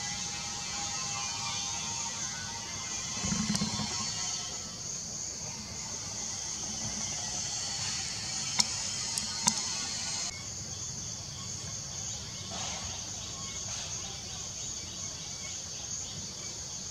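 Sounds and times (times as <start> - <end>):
insects droning: 0.0 - 16.9.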